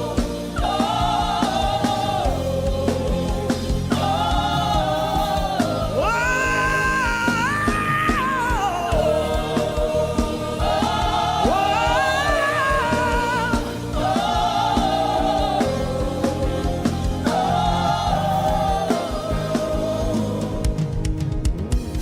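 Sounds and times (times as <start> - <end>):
voices singing: 0.0 - 21.2
band with bass and drums: 0.0 - 22.0.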